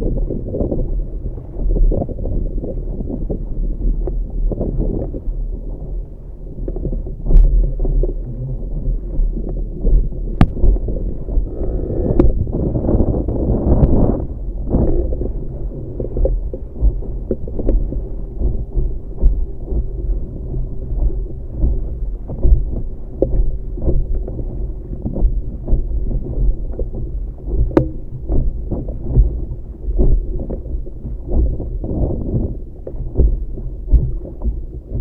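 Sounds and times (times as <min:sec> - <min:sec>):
water splashing against hull: 0:00.0 - 0:35.0
wind rumbling on microphone: 0:00.0 - 0:35.0.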